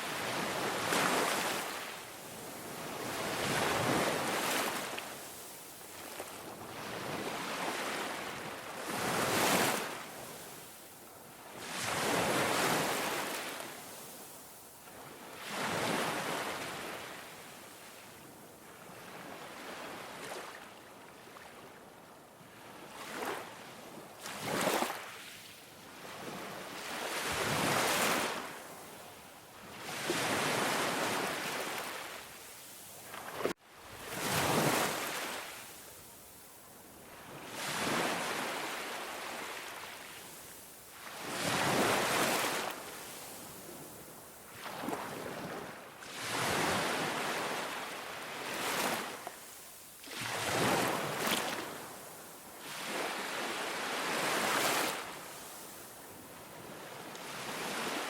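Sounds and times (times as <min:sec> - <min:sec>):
ocean waves breaking on beach: 0:00.0 - 0:18.0, 0:22.6 - 0:58.0.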